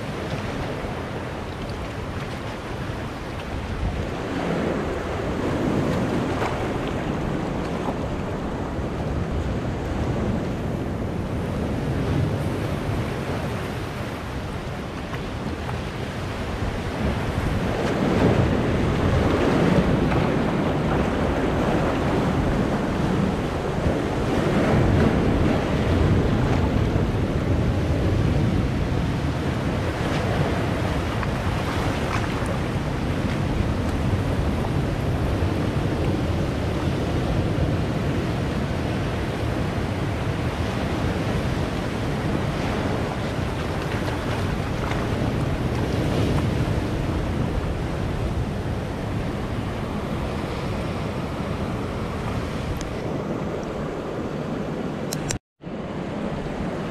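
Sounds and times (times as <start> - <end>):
waves breaking on rocks: 0.0 - 54.2.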